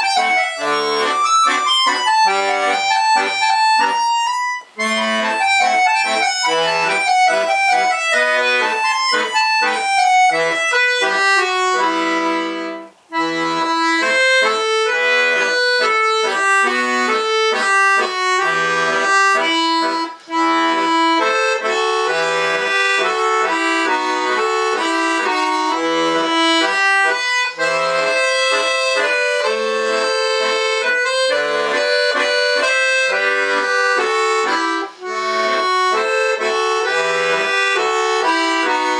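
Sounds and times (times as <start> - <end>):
button accordion folk melody: 0.0 - 38.9.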